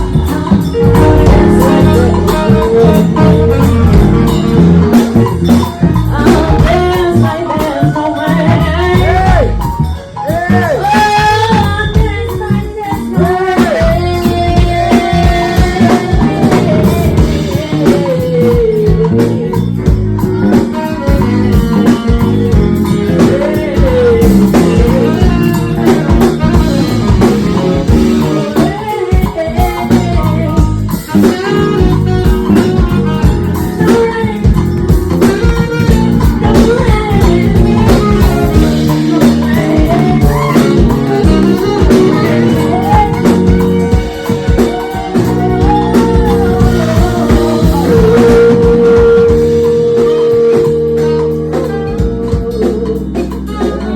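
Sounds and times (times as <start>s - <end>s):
drum kit: 0.0s - 53.9s
guitar playing bluesy groove: 0.0s - 53.9s
voice or lead line bending: 0.0s - 53.9s.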